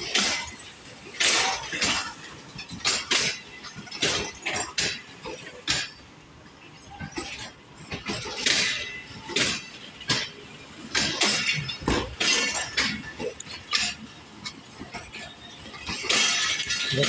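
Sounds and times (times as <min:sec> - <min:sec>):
train wheels clanking over joints: 0:00.0 - 0:17.0.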